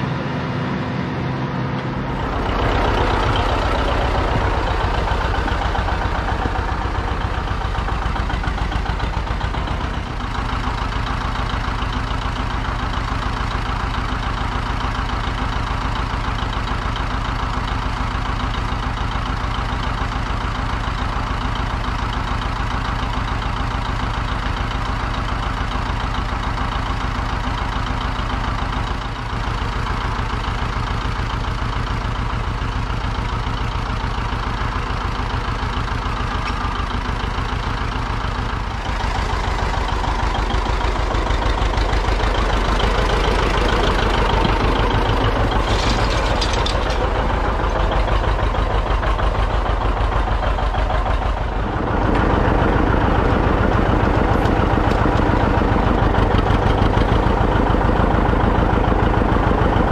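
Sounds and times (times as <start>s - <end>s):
tractor engine running slowly: 0.0s - 59.9s.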